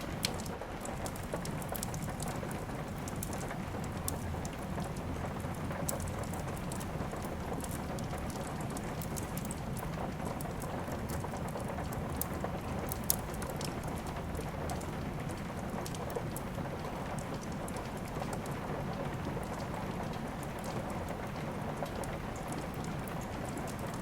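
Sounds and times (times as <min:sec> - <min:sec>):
fire crackling: 0:00.0 - 0:24.0
steady rain: 0:00.0 - 0:24.0.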